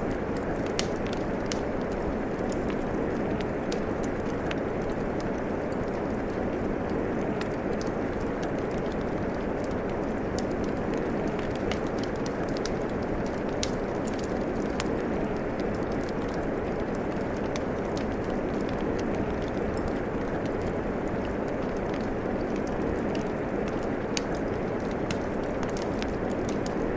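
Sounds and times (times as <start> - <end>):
steady rain: 0.0 - 26.9
wood fire crackling: 0.0 - 26.9.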